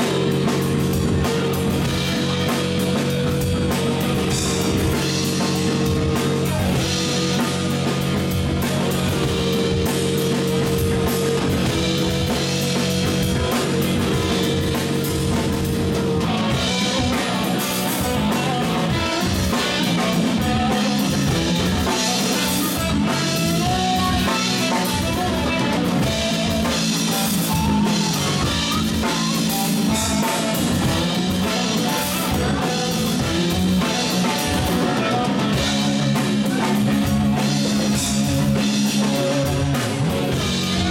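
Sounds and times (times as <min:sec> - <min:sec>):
drum kit: 0:00.0 - 0:40.9
electric bass: 0:00.0 - 0:40.9
electric guitar: 0:00.0 - 0:40.9.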